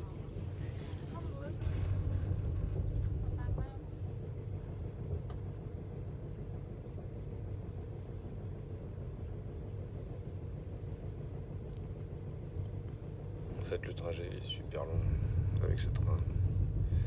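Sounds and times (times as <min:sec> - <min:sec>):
train carriage rumbling on rails: 0:00.0 - 0:17.0.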